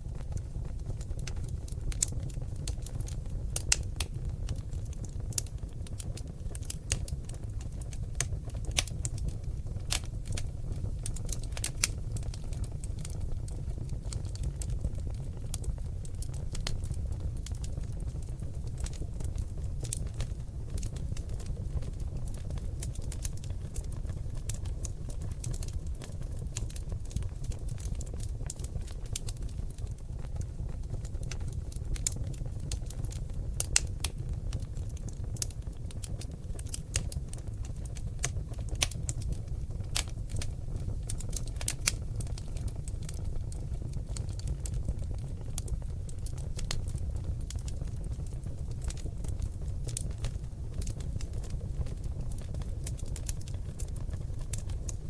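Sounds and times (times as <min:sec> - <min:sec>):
logs crackling and popping: 0:00.0 - 0:55.0
low rumble of flame: 0:00.0 - 0:55.0.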